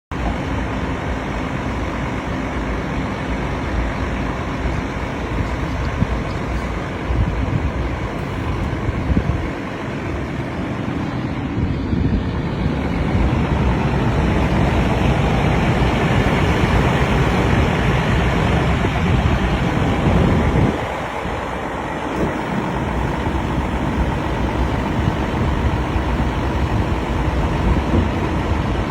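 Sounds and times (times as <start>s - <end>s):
excavator diesel engine running: 0.1s - 28.9s.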